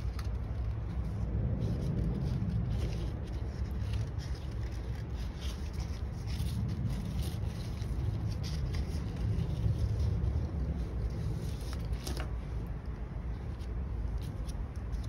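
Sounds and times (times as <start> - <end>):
paper rustling: 0.0 - 15.0
steady low hum: 0.0 - 15.0.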